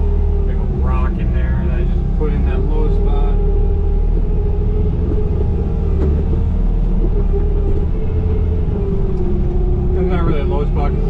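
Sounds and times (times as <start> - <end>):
diesel engine with whine: 0.0 - 11.0.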